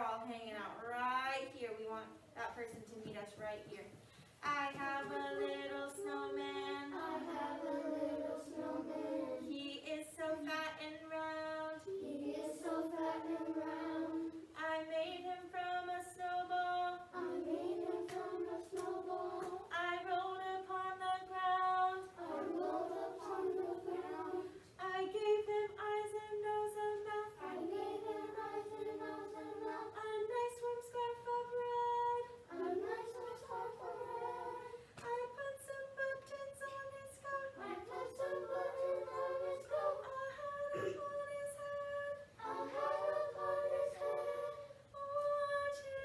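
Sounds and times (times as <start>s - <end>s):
woman and children singing: 0.0s - 46.0s.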